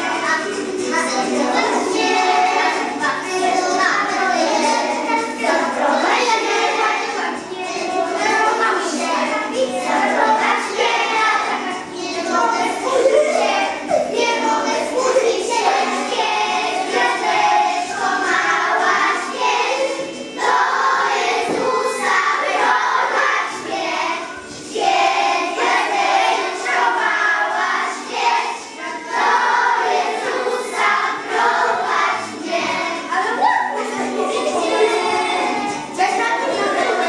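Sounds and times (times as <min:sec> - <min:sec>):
children's choir singing: 0:00.0 - 0:37.0.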